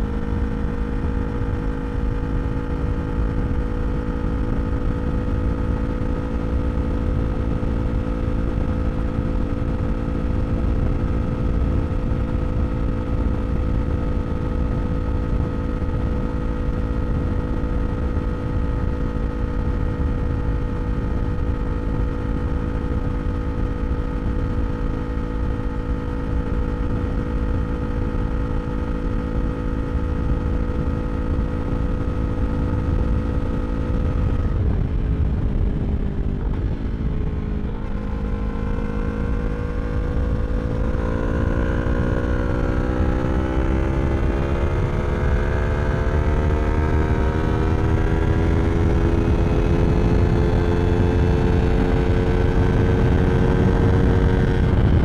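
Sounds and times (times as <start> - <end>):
motorcycle engine revving: 0.0 - 55.0
wind rumble on microphone: 0.0 - 55.0.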